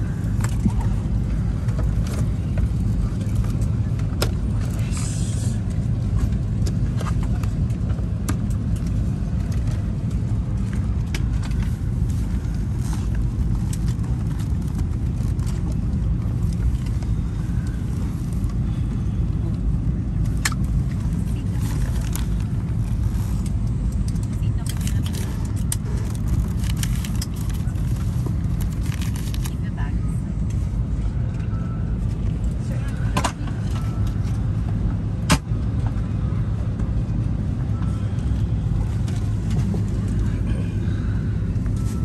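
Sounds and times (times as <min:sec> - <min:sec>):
cabin ventilation rumble: 0:00.0 - 0:42.0.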